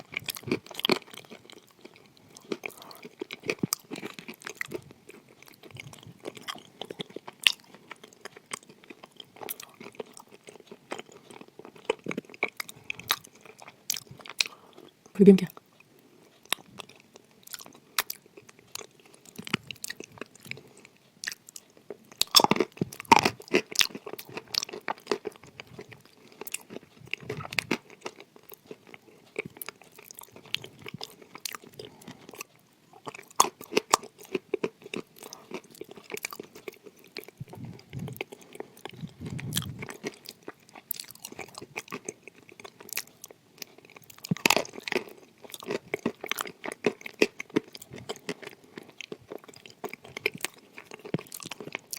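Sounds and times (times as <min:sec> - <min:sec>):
chewing and crunching clay: 0:00.0 - 0:51.9.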